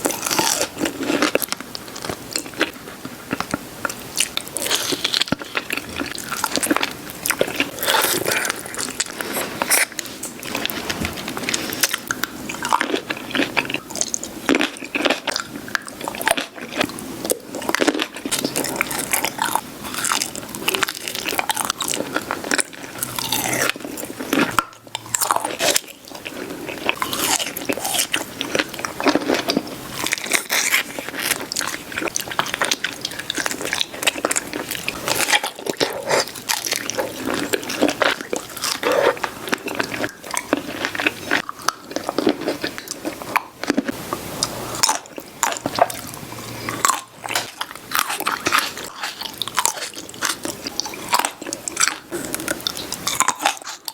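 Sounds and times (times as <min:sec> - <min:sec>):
crisp wet fruit crunches: 0:00.0 - 0:10.8, 0:11.4 - 0:43.9.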